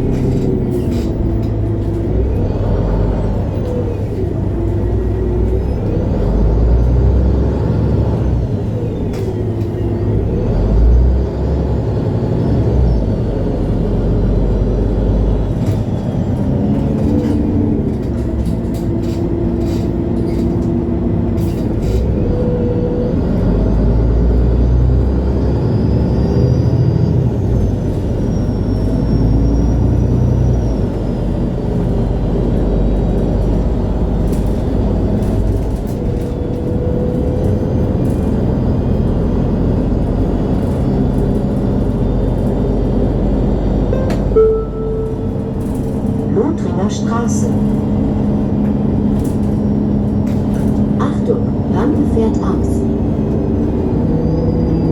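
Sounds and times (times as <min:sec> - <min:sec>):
bus engine rumble: 0:00.0 - 0:54.9.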